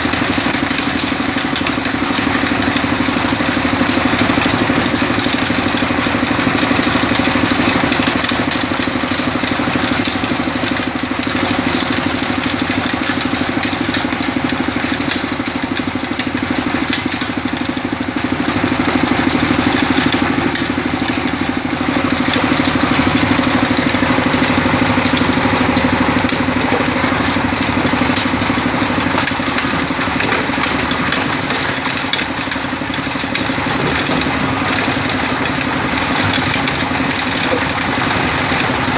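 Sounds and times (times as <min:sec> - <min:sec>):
rock-crushing machine drone: 0:00.0 - 0:38.9.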